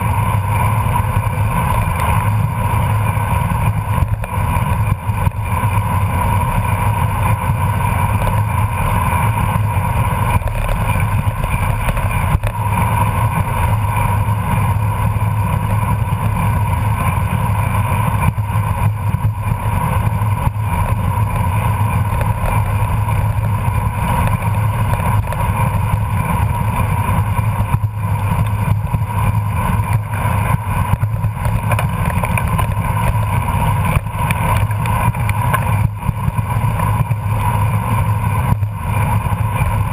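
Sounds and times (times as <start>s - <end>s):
bicycle road noise on asphalt: 0.0s - 39.9s.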